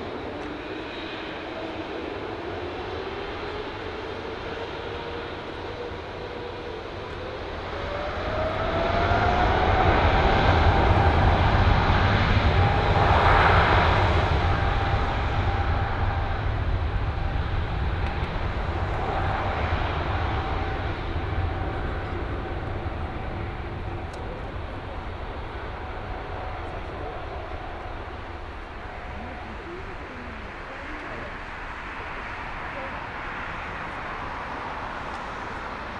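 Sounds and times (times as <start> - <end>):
jet engine roar: 0.0 - 35.9
jet engine whine: 0.0 - 35.9.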